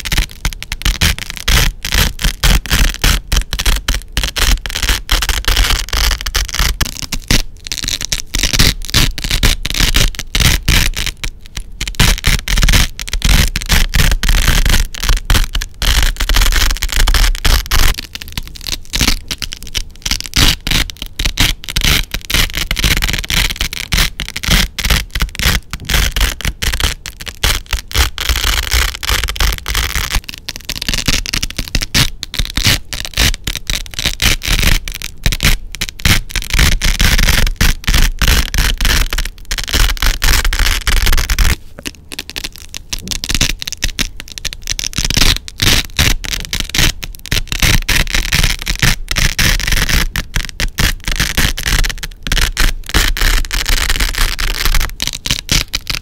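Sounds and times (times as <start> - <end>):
velcro being peeled: 0.0 - 56.0.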